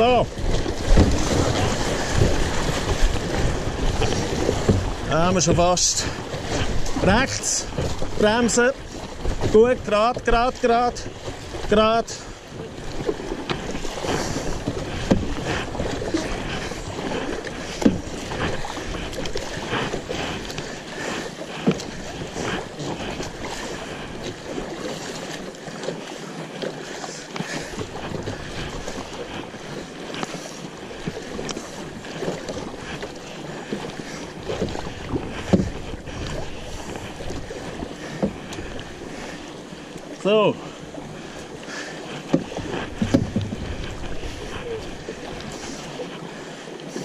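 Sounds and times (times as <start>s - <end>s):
paddle splash: 0.0s - 47.0s
river water rushing: 0.0s - 47.0s.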